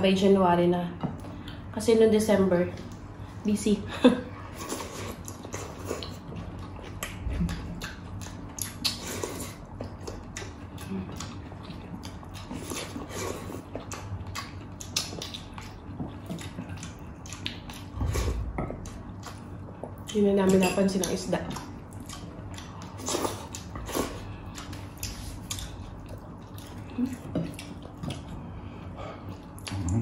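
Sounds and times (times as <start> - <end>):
people chewing and lip smacking: 4.4 - 30.0.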